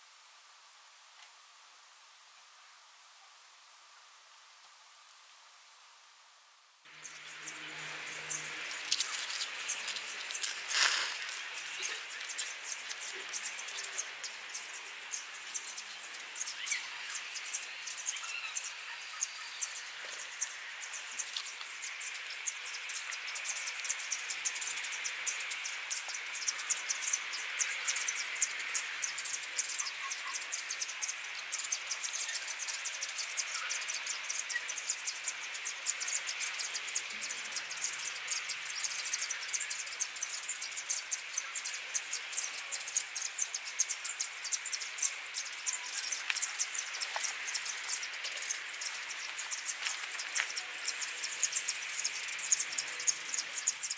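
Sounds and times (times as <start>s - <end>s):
insects chirping: 6.9s - 53.9s.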